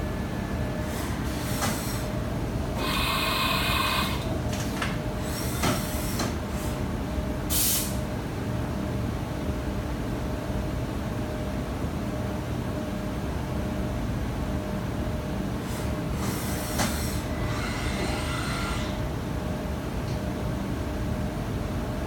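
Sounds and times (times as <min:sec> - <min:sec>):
machine mechanical hum: 0:00.0 - 0:22.0.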